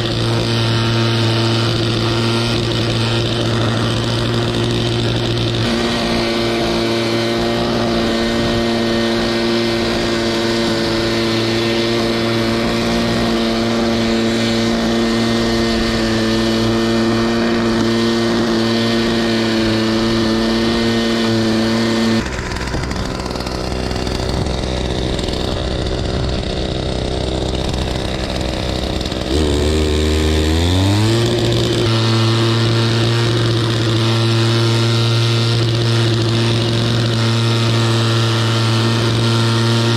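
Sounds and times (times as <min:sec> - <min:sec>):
grass cutting: 0:00.0 - 0:39.9
mower engine running: 0:00.0 - 0:39.9.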